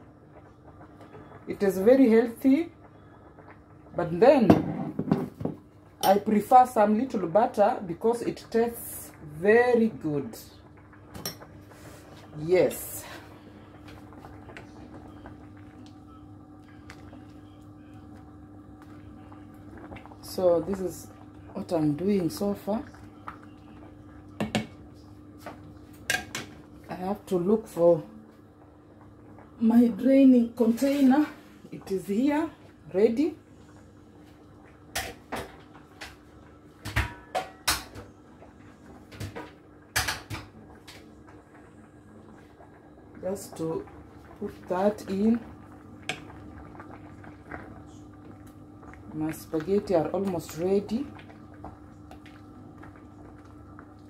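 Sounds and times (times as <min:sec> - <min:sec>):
steady low hum: 0:00.0 - 0:54.0
water bubbling in a pot: 0:00.0 - 0:54.0.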